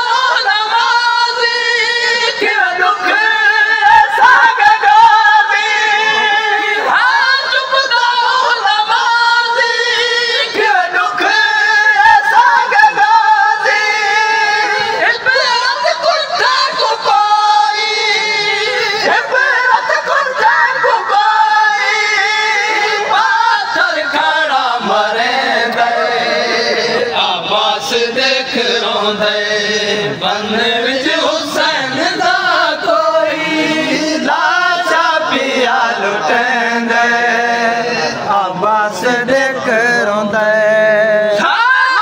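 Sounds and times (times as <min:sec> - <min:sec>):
lead singer on microphone: 0:00.0 - 0:42.0
men chanting a lament: 0:00.0 - 0:42.0.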